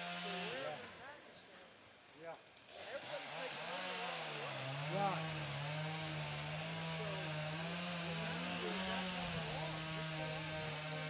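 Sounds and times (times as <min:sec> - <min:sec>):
chainsaw cutting wood: 0:00.0 - 0:01.0, 0:02.6 - 0:11.0.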